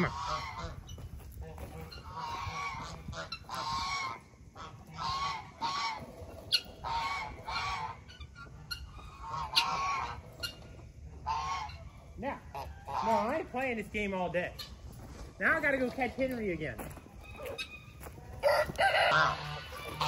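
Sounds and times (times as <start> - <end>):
geese honking: 0.0 - 14.8, 15.4 - 20.0.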